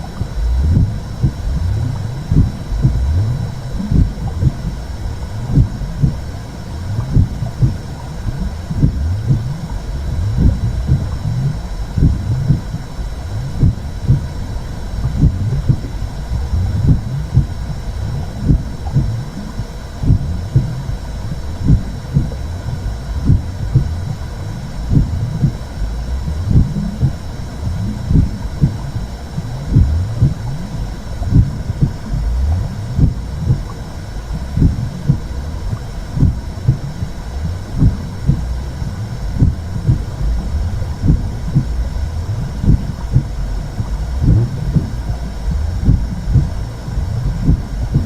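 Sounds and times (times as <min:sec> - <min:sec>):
heartbeat-like pulses: 0:00.0 - 0:48.0
muffled whooshing rumble: 0:00.0 - 0:48.0.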